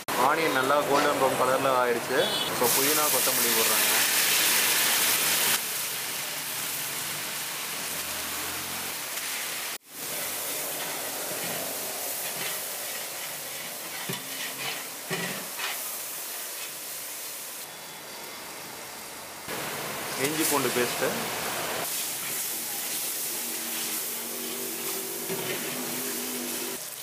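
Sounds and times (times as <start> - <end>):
leaves sizzling in hot oil: 2.6 - 27.0.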